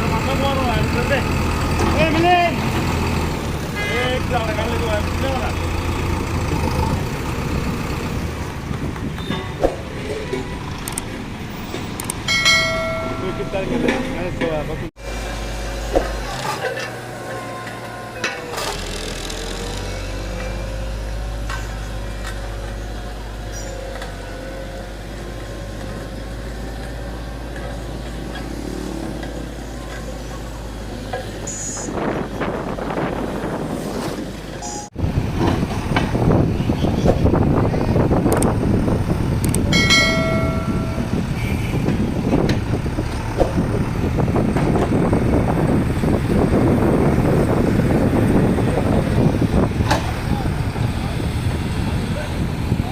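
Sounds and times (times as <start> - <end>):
diesel engine running: 0.0 - 9.2, 9.8 - 52.9.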